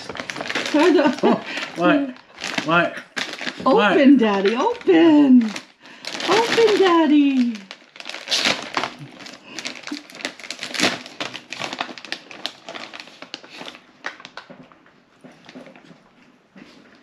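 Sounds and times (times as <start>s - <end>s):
plastic packaging crinkling: 0.0s - 14.8s.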